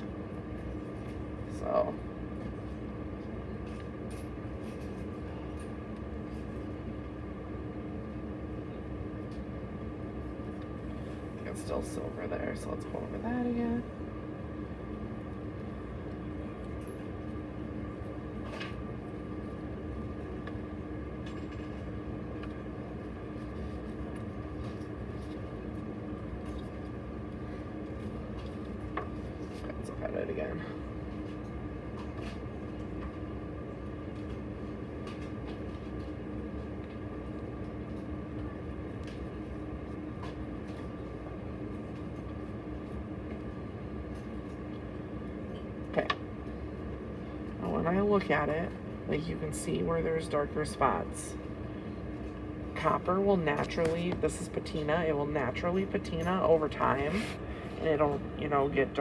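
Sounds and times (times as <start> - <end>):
constant low hum: 0.0 - 59.0.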